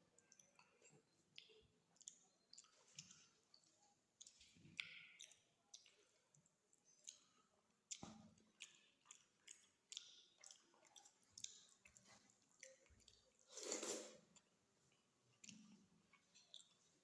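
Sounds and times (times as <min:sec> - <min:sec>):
person chewing with mouth clicks: 0:00.1 - 0:17.0.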